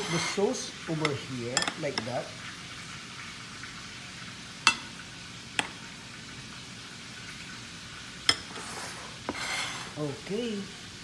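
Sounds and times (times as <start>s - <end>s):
cooking oil sizzling: 0.0s - 11.0s.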